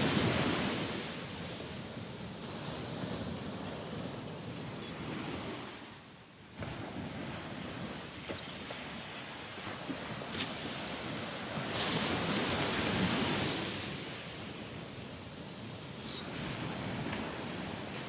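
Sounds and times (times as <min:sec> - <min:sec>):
surf washing: 0:00.0 - 0:18.0.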